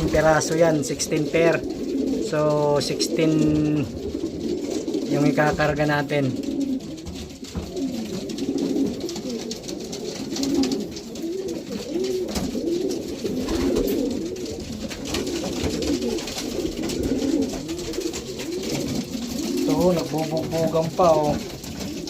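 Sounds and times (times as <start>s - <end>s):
pigeons cooing: 0.0s - 22.0s
wing flutters and clicks: 0.0s - 22.0s.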